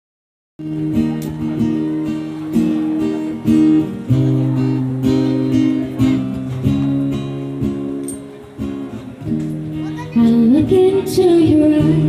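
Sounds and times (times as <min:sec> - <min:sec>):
acoustic guitar strumming chords: 0:00.6 - 0:12.0.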